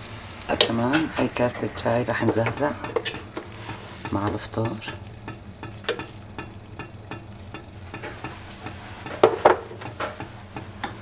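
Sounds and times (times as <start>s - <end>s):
faint sizzle: 0.0s - 11.0s.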